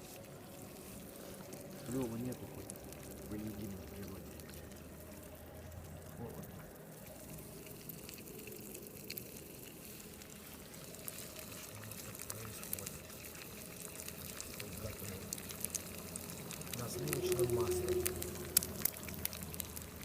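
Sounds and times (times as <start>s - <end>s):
egg frying in a pan: 0.0s - 20.0s
water steaming: 0.0s - 20.0s.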